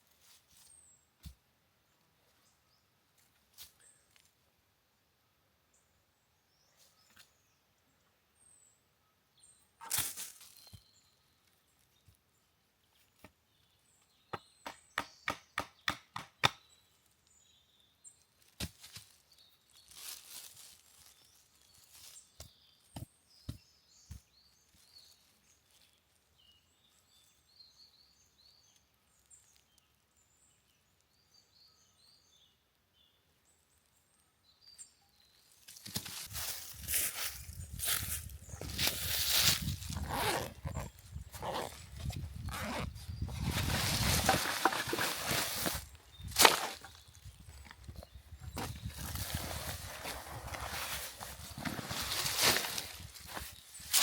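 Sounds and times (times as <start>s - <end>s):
small birds chirping: 5.7s - 54.0s.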